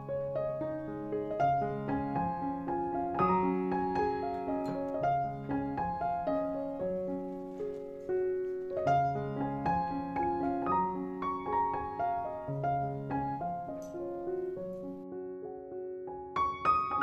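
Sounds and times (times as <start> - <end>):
solo piano piece: 0.0 - 17.0.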